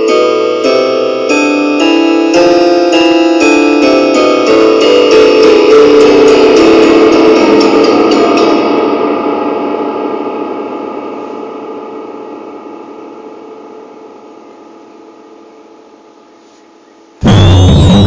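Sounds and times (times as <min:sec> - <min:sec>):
sustained piano chord: 0:00.0 - 0:16.0.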